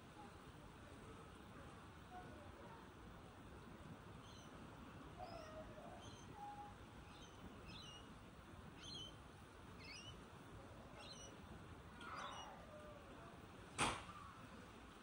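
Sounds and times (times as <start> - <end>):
low background hiss: 0.0 - 15.0.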